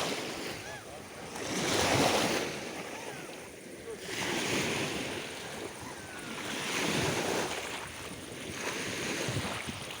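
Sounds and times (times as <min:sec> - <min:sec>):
sea waves washing on shore: 0:00.0 - 0:10.0
wind on microphone: 0:00.0 - 0:10.0.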